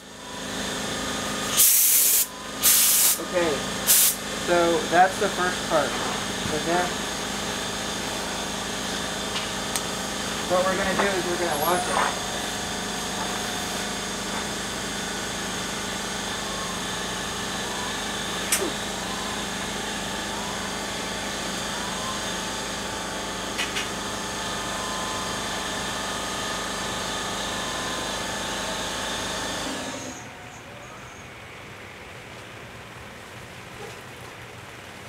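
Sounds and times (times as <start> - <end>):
motor hum with constant tones: 0.0 - 35.0.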